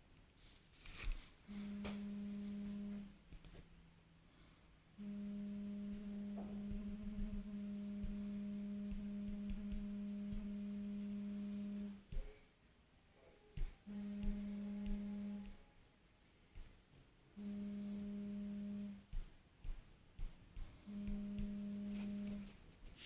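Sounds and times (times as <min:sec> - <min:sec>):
phone speaker low hum: 0:00.0 - 0:23.0.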